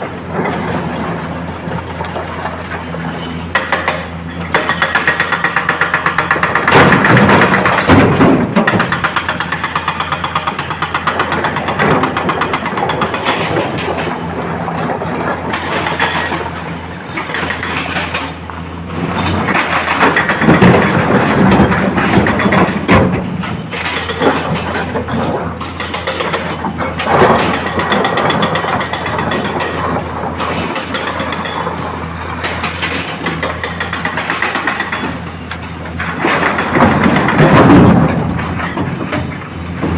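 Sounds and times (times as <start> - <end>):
excavator diesel engine running: 0.0 - 39.9
heavy knocks and clatter: 0.1 - 39.9.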